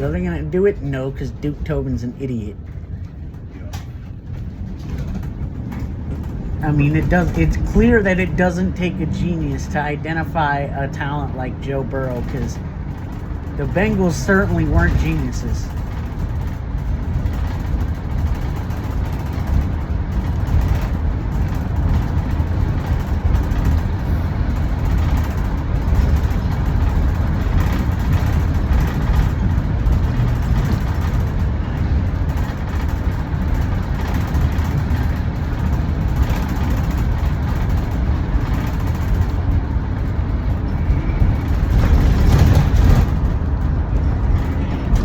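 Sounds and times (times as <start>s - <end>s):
bus engine rumble: 0.0s - 45.0s
road noise: 0.0s - 45.0s.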